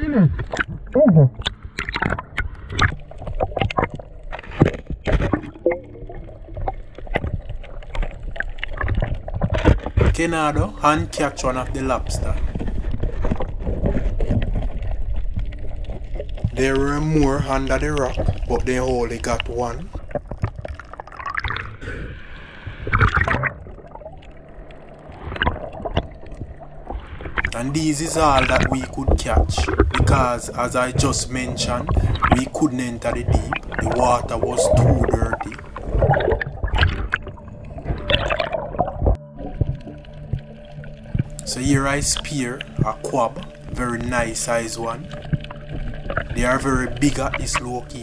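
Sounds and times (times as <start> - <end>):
knocks and gurgles of waves: 0.0 - 48.0
water sloshing and splashing: 0.0 - 48.0.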